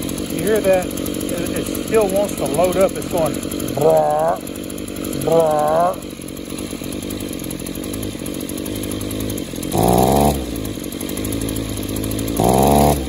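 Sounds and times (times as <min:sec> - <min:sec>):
small engine running roughly: 0:00.0 - 0:13.0.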